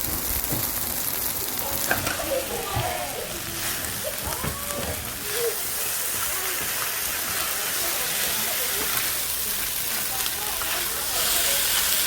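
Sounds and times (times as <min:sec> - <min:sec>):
food sizzling on griddle: 0:00.0 - 0:12.0
faint voices talking: 0:01.2 - 0:12.0.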